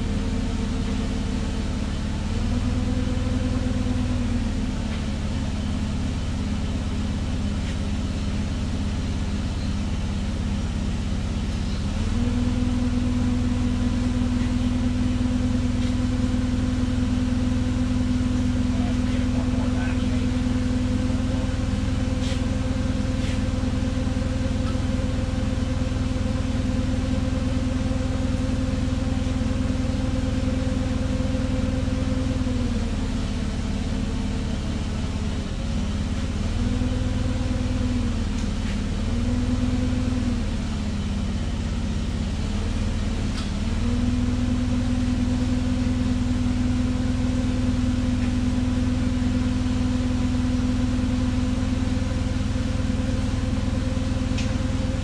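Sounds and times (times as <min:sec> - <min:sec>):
forklift engine idling: 0:00.0 - 0:55.0.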